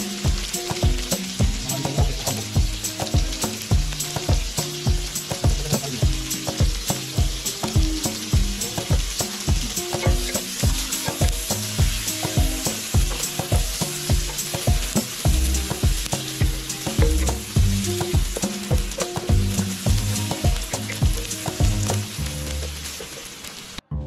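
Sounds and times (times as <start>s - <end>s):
background music with steady beat: 0.0s - 22.8s
onion sizzling in hot oil: 0.0s - 23.8s.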